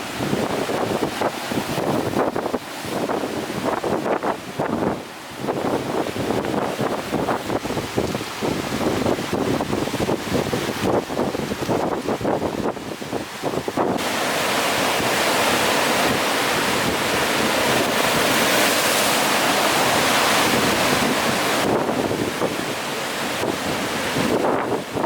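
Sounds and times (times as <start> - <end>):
rough sea waves breaking: 0.0 - 25.0
wind buffeting microphone: 0.0 - 25.0.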